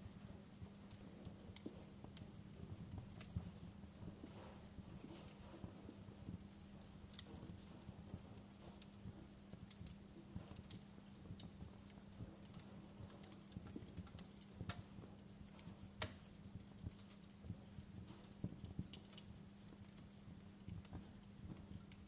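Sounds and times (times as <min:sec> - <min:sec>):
faint low hum: 0:00.0 - 0:22.0
wood fire crackling: 0:00.0 - 0:22.0.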